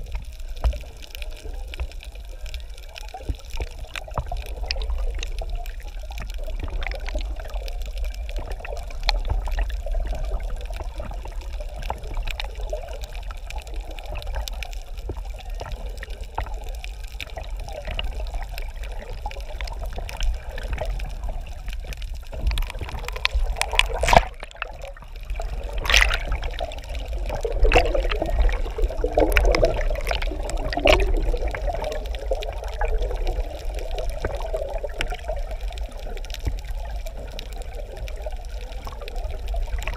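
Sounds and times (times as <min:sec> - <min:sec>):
small sharp underwater clicks: 0:00.0 - 0:39.9
underwater rushing bubbling wash: 0:00.0 - 0:39.9.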